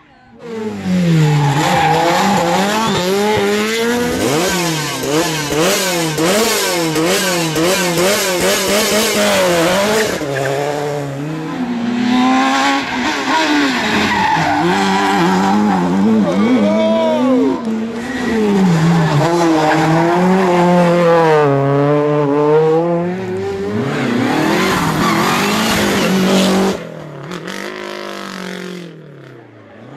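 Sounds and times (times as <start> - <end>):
rally car engine revving: 0.4 - 29.9.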